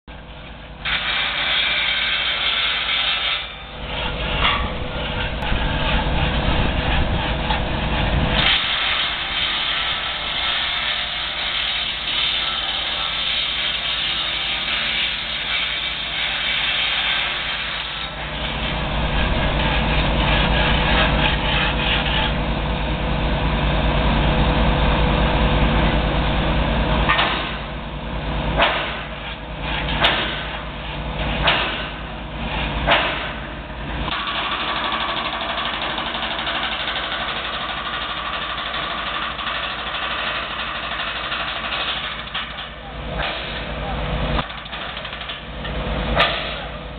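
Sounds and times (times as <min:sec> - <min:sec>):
excavator diesel engine running: 0:03.5 - 0:46.9.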